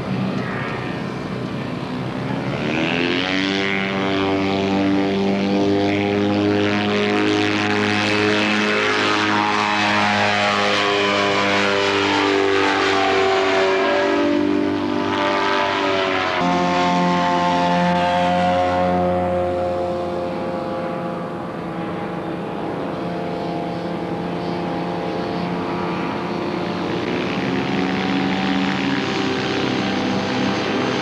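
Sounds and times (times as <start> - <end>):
ultralight aircraft engine revving: 0.0 - 31.0.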